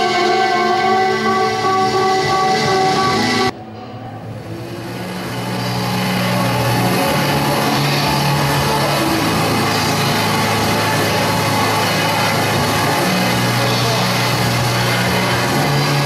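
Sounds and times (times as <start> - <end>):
experimental electronic noise music: 0.0 - 16.0
low sustained drone: 0.0 - 16.0.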